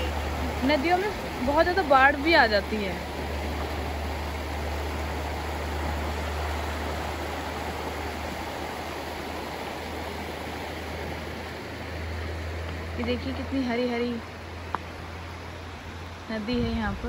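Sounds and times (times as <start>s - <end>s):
river rushing over rocks: 0.0s - 16.9s.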